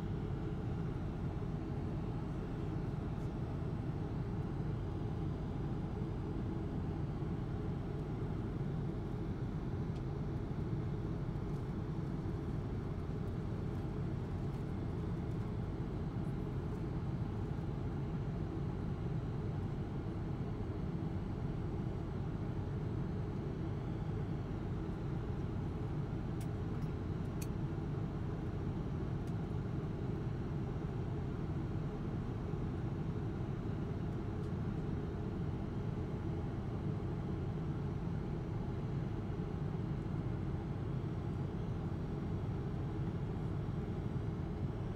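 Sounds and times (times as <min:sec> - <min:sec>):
airplane cabin engine noise: 0:00.0 - 0:44.9.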